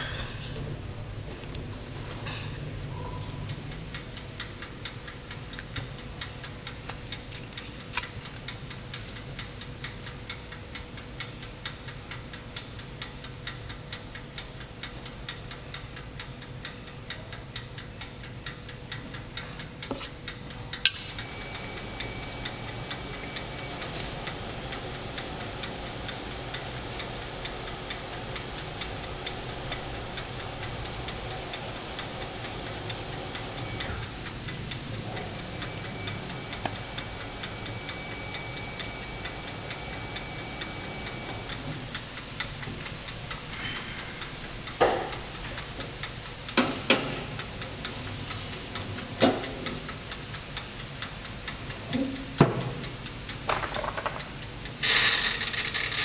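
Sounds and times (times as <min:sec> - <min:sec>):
rapid ticking: 0:02.8 - 0:56.0.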